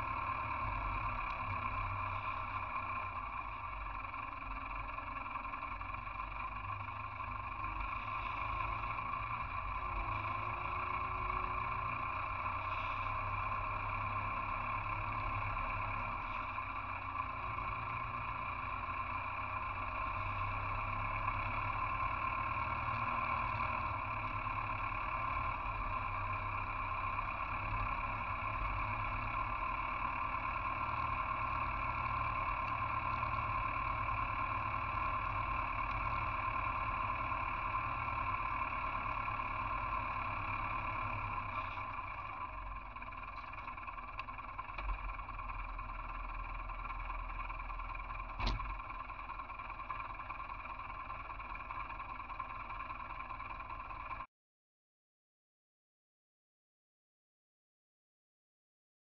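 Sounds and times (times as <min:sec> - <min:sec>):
tractor engine running: 0:00.0 - 0:54.3.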